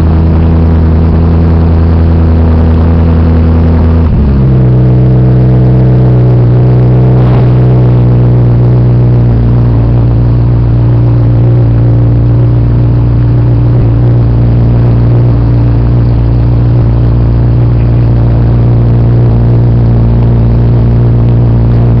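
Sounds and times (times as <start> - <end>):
car engine idling loudly: 0.0 - 22.0.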